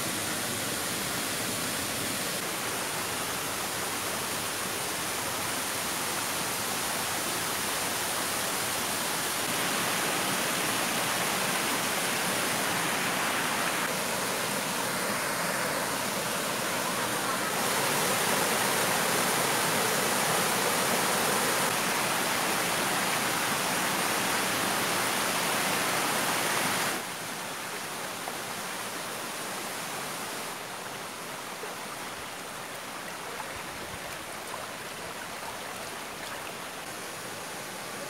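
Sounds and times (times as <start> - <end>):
waterfall rushing over rock: 0.0 - 38.0.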